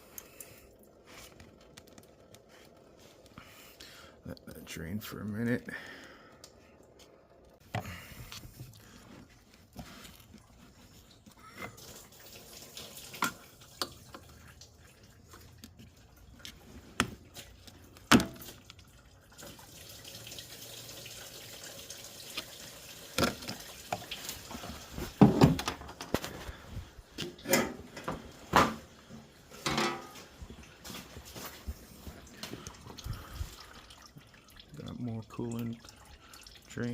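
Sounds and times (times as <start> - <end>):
coolant dripping into a pan: 0.0 - 28.2, 29.5 - 36.9.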